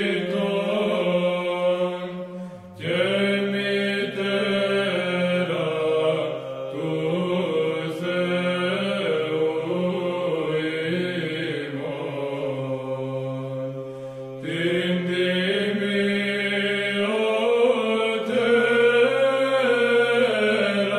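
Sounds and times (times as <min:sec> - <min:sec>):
voices singing slow chant: 0:00.0 - 0:20.9.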